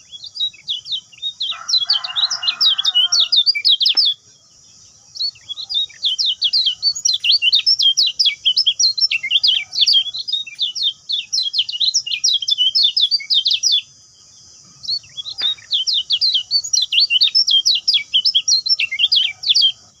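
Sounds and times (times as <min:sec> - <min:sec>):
bird twittering song: 0:00.0 - 0:20.0.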